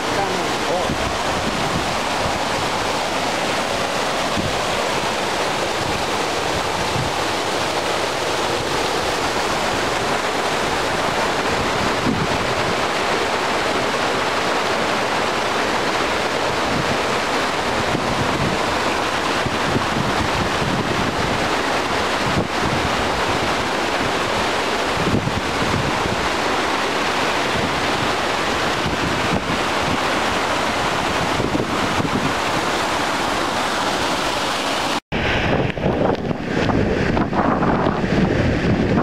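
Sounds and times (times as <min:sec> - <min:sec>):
stream rushing over boulders: 0:00.0 - 0:39.0
wind buffeting microphone: 0:00.0 - 0:39.0.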